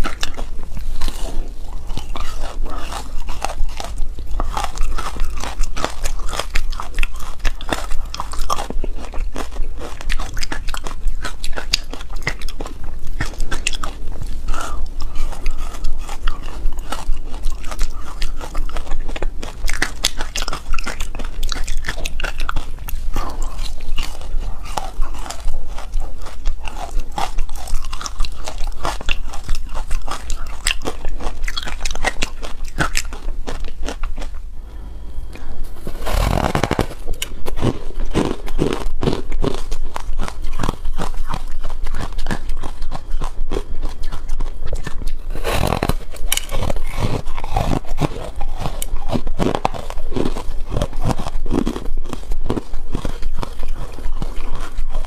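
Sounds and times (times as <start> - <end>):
chewing crunchy ice: 0.0 - 34.5, 35.3 - 55.0.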